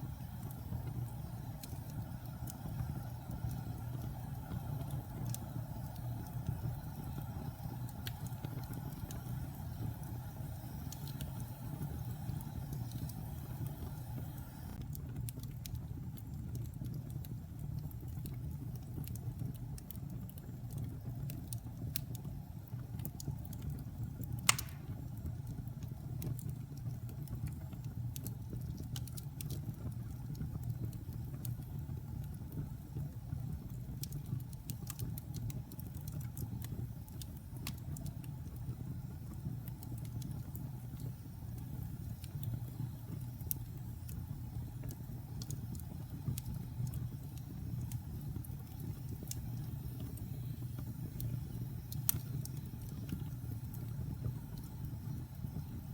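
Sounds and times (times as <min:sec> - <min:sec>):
fire crackling and popping: 0:00.0 - 0:55.9
low rumble of fire: 0:00.0 - 0:55.9.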